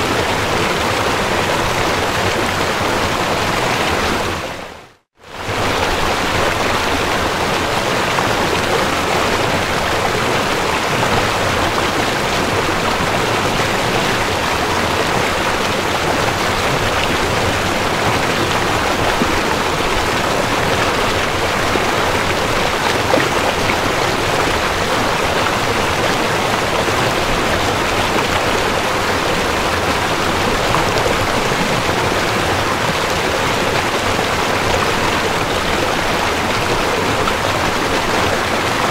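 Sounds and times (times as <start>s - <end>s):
river water over stones: 0.0s - 38.9s.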